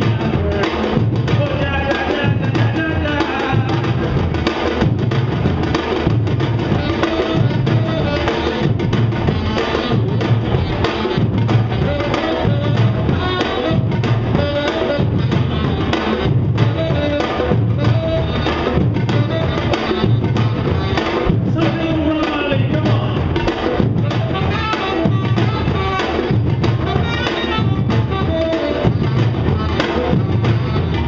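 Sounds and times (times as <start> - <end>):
bass drums beating: 0.0 - 31.0
stick-struck drums playing fast: 0.0 - 31.0.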